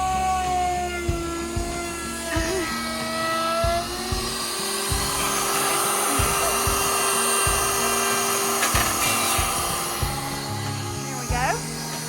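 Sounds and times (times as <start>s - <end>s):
router whining: 0.0s - 12.0s.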